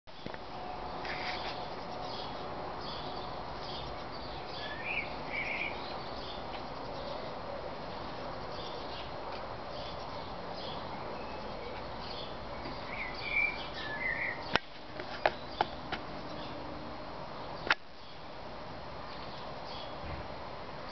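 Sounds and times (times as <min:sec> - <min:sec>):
birds chirping: 0:00.1 - 0:16.7, 0:17.3 - 0:18.3, 0:19.0 - 0:20.1.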